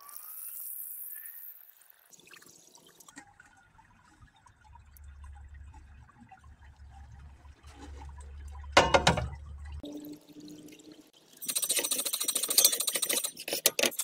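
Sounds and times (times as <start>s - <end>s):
liquid trickling and dripping: 0.1s - 13.3s.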